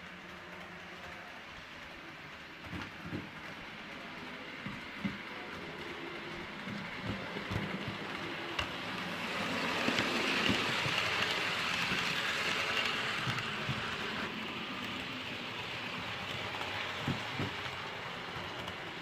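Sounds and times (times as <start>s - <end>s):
light clicks of train wheels: 0.0s - 19.0s
model train wheels rumbling: 0.0s - 19.0s.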